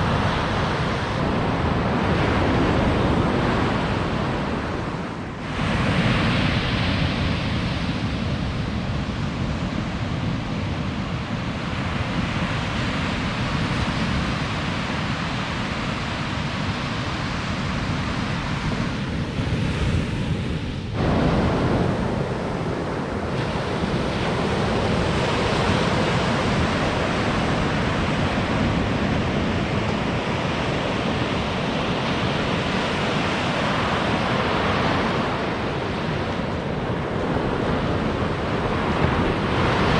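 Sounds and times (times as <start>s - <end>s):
ocean surf breaking on beach: 0.0s - 39.9s
wind noise on microphone: 0.0s - 39.9s.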